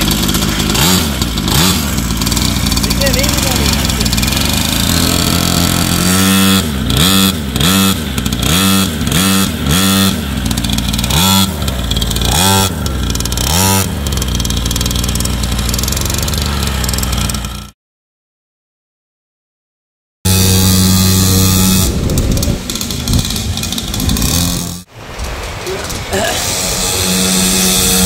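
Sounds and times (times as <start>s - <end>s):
two-stroke dirt bike engine revving: 0.0s - 17.8s, 20.3s - 28.0s.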